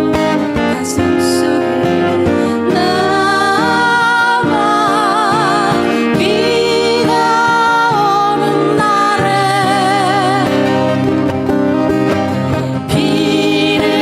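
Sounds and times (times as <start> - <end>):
acoustic pop ballad: 0.0 - 14.0.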